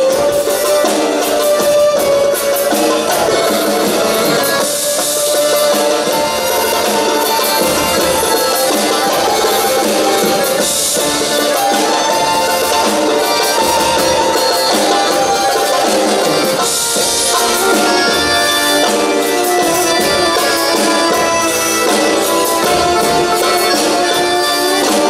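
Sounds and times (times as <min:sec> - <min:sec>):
belly-dance band music: 0:00.0 - 0:25.0.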